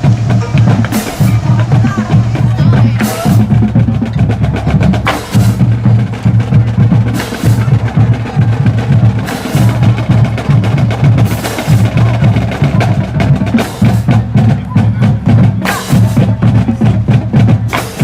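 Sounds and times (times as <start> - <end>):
percussion band playing: 0.0 - 18.0
rapid snare drum strokes: 0.0 - 18.0.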